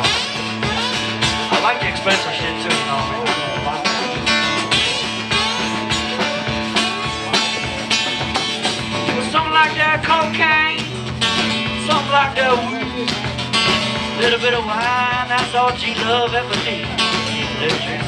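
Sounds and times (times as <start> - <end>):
drum kit playing: 0.0 - 18.0
strummed acoustic guitar: 0.0 - 18.0.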